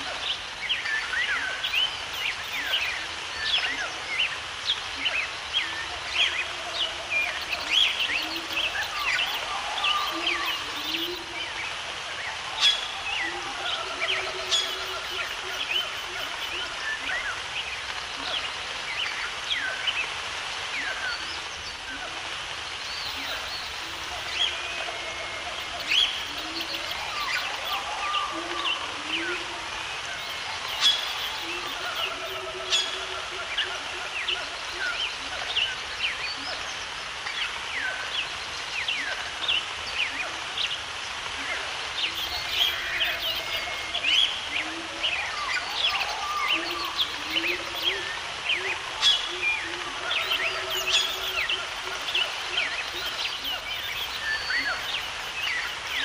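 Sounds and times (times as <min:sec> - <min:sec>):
background hiss: 0:00.0 - 0:56.0
wild birds chirping: 0:00.0 - 0:56.0.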